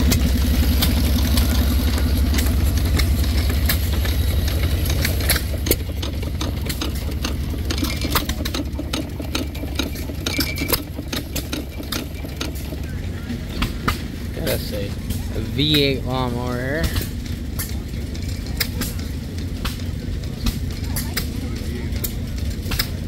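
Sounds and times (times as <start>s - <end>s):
engine pops and clicks: 0.0s - 23.0s
hit-and-miss engines chugging: 0.0s - 23.0s.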